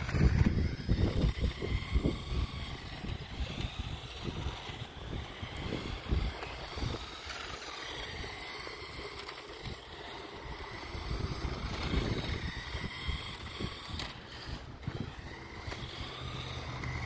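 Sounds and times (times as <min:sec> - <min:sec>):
wind rumbling on microphone: 0:00.0 - 0:07.3, 0:08.0 - 0:16.3
toy car electric motor whine: 0:00.0 - 0:17.0.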